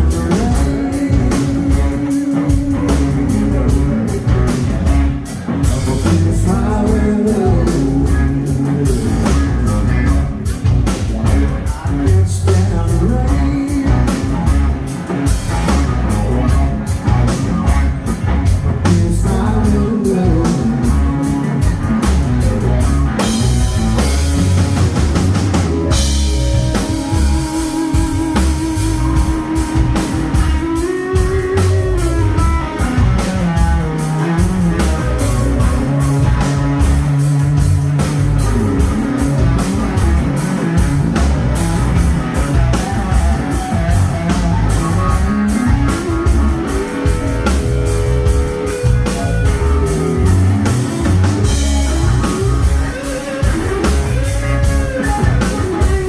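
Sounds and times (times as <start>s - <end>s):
drum kit beat: 0.0s - 56.0s
electric guitar line: 0.0s - 56.0s.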